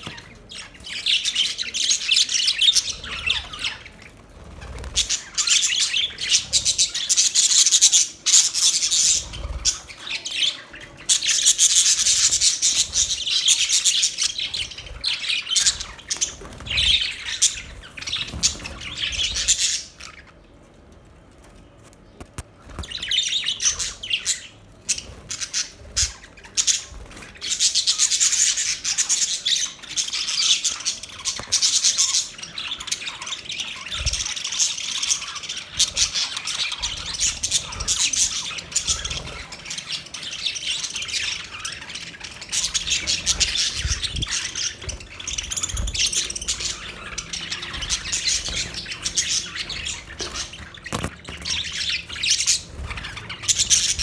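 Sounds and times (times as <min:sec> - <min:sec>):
budgerigars chirping and chattering: 0:00.0 - 0:20.6, 0:22.6 - 0:54.0.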